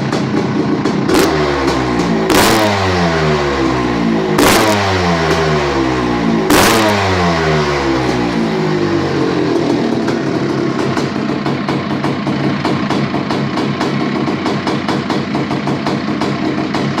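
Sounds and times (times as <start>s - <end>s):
dirt bike engine revving and idling: 0.0s - 17.0s.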